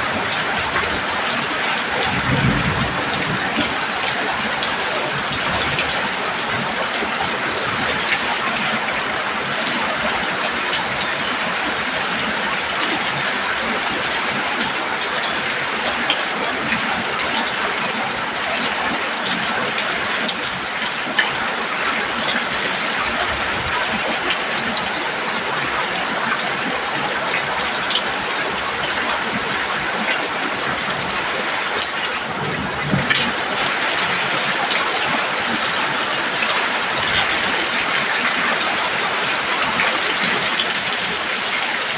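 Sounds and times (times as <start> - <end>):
heavy rain on a roof: 0.0 - 41.9.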